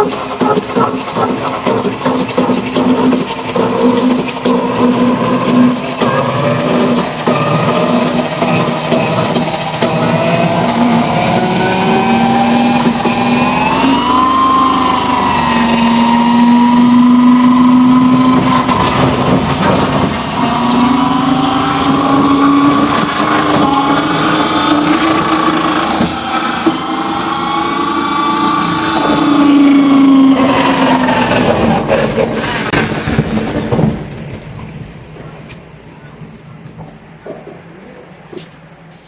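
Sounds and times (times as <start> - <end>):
motor whine with low hum: 0.0 - 31.9.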